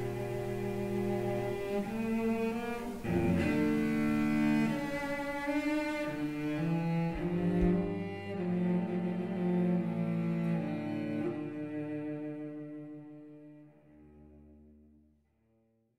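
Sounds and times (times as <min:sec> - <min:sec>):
slow bowed string music: 0:00.0 - 0:15.3.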